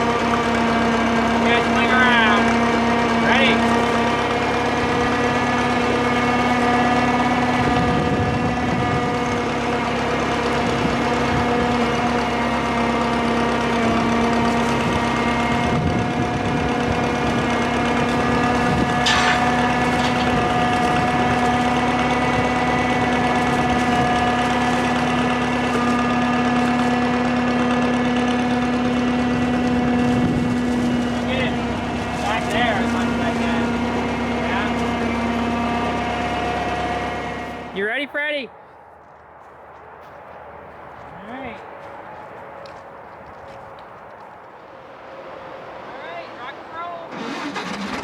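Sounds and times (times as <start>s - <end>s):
crane engine humming: 0.0s - 48.0s.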